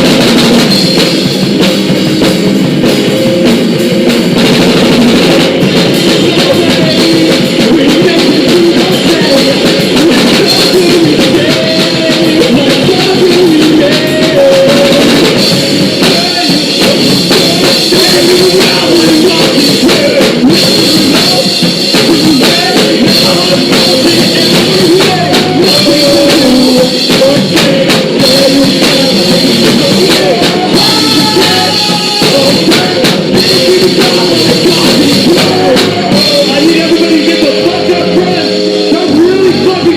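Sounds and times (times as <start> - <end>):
loud punk rock band: 0.0 - 39.9.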